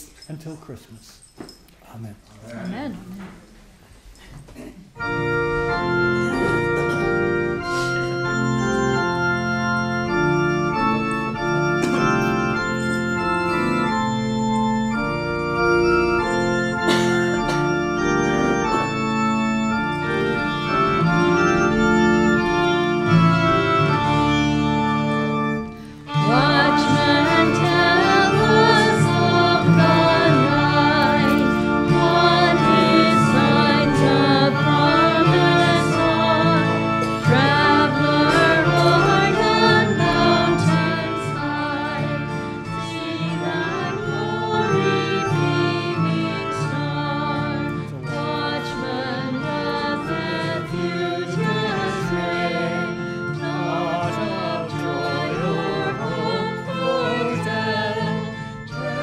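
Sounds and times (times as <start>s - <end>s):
church organ chords: 5.0s - 59.0s
congregation singing a hymn: 5.0s - 59.0s.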